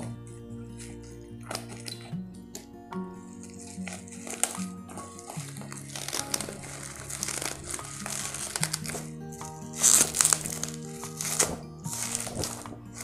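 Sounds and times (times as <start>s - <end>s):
background music sustained notes: 0.0s - 13.0s
plastic bag and bubble wrap crinkling: 0.0s - 13.0s.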